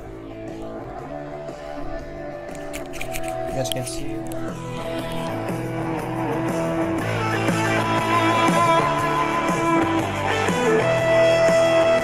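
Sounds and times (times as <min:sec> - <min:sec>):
guitar music through speaker: 0:00.0 - 0:12.0.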